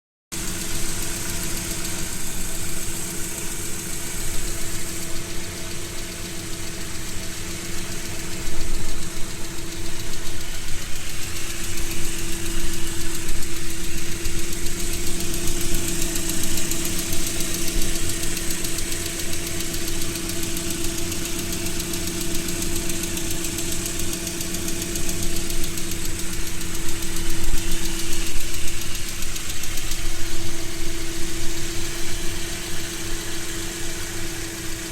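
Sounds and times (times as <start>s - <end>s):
engine idling with knock: 0.3s - 34.9s.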